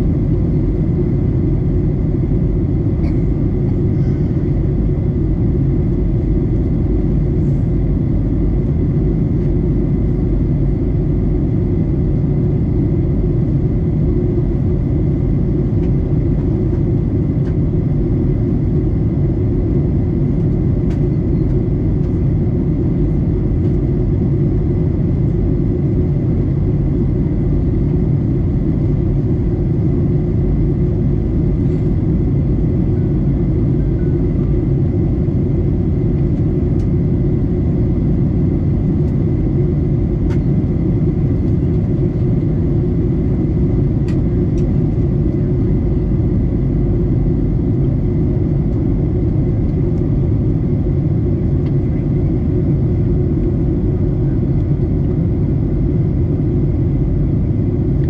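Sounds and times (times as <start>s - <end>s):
aircraft cabin rumble: 0.0s - 58.0s.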